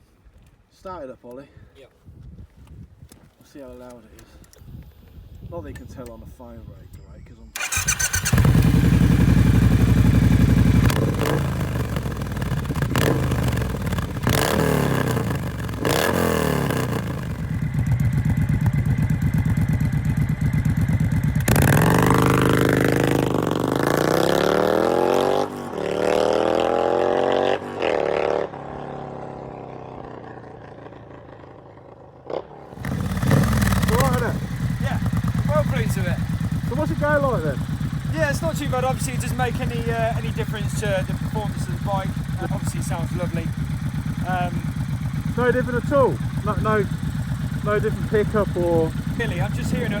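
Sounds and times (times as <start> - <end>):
motorcycle engine revving: 7.6 - 50.0.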